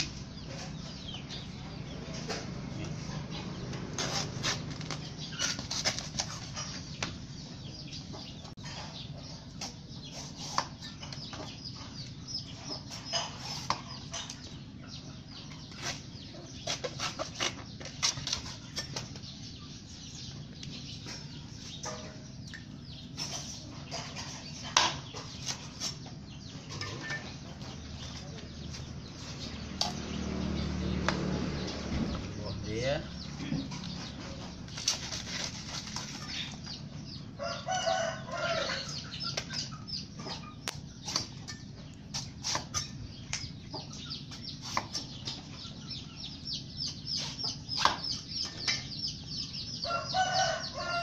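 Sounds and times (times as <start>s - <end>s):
chickens clucking: 0.0s - 51.0s.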